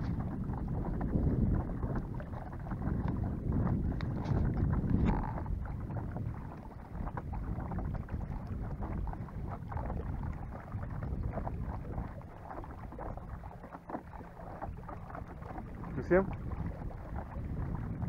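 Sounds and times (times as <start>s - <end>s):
light water splashing: 0.0s - 18.0s
low rumble: 0.0s - 18.0s
wind buffeting microphone: 0.0s - 18.0s.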